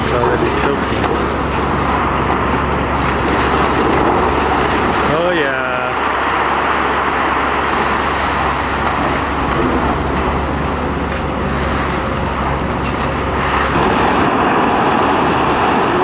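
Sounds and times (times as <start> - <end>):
demolition machinery engine drone: 0.0 - 16.0.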